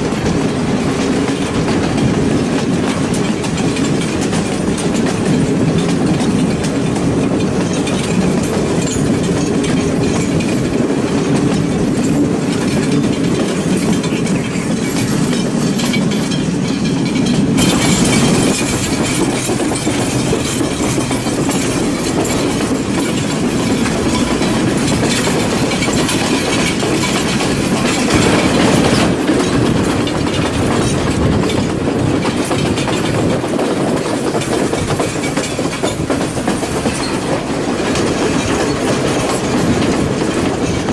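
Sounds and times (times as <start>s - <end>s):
train rumbling on rails: 0.0s - 40.9s
wheels clacking over rail joints: 0.0s - 40.9s.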